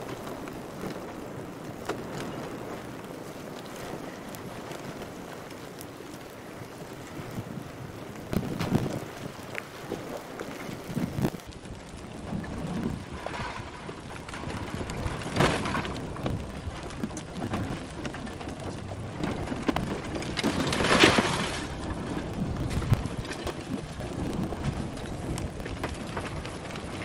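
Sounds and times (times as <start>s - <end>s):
fire crackling: 0.0s - 27.0s
lava blocks crackling and clattering: 0.0s - 27.0s.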